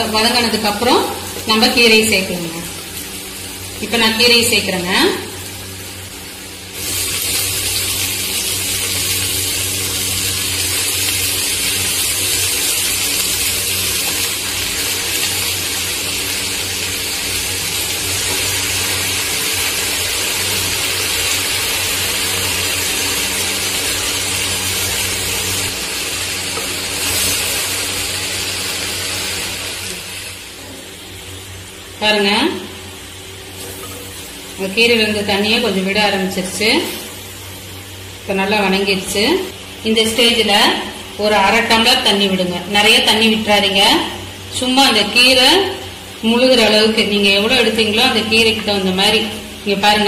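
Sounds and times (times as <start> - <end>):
greens sizzling in hot oil: 0.0 - 50.0.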